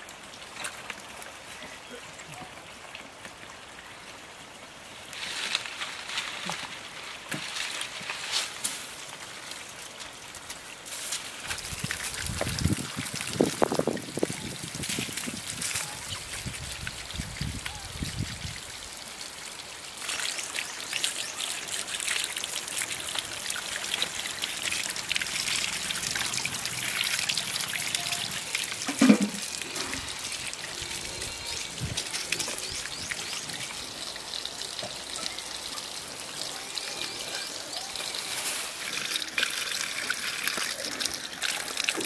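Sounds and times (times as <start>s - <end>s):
water trickling and splashing: 0.0s - 42.0s.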